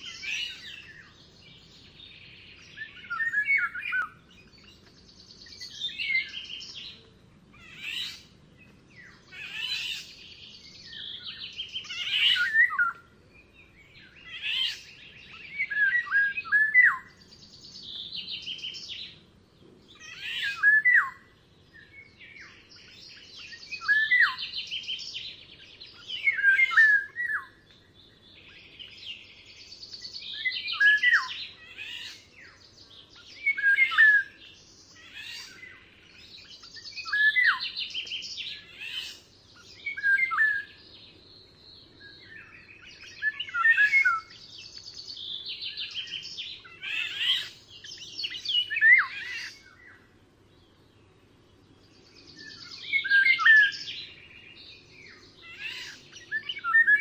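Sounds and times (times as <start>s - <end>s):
faint outdoor hiss: 0.0s - 57.0s
songbirds singing: 0.0s - 57.0s.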